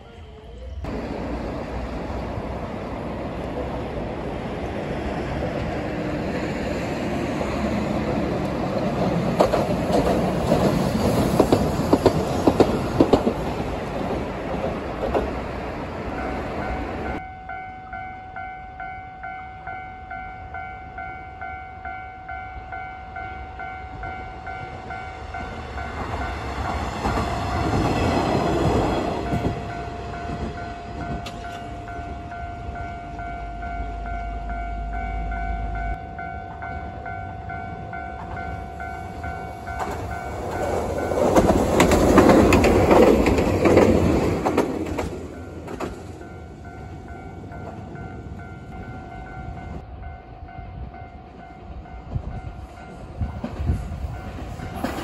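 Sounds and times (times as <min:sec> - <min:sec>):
train rumbling past: 0:00.0 - 0:55.0
tram passing: 0:00.0 - 0:55.0.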